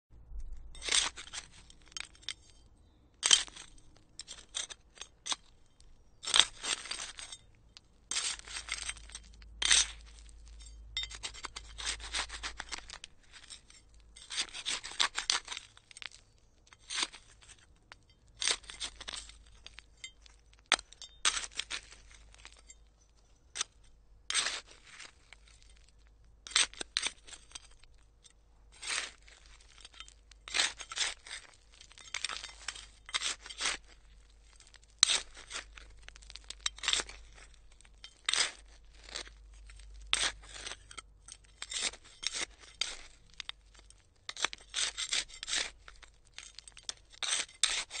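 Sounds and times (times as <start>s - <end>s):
hand trowel scraping soil: 0.7s - 7.5s, 8.1s - 17.7s, 18.4s - 27.8s, 28.7s - 48.0s.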